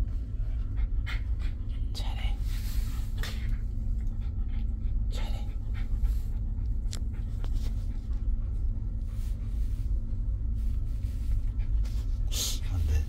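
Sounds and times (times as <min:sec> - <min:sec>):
dog panting: 0:00.0 - 0:13.0
low ferry hum: 0:00.0 - 0:13.0.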